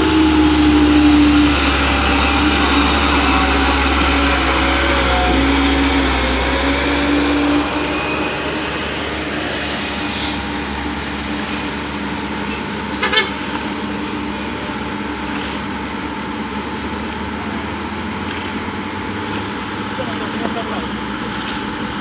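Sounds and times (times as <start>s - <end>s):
diesel engines working: 0.0s - 22.0s
dump truck driving past: 0.0s - 22.0s.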